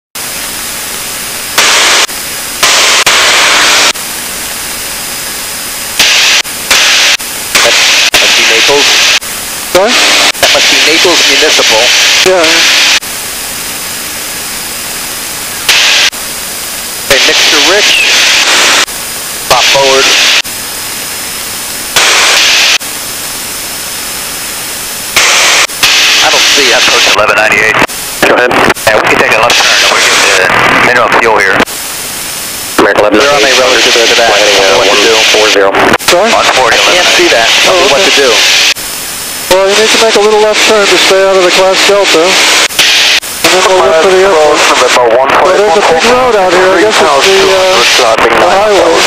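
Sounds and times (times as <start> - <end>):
faint high electrical whine: 0.2 - 49.0
intercom hiss: 5.9 - 14.2, 15.6 - 49.0.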